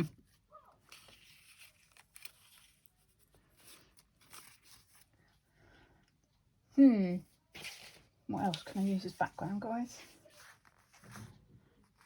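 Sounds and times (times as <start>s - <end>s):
paper rustling and crinkling: 0.0s - 5.4s, 7.5s - 12.0s.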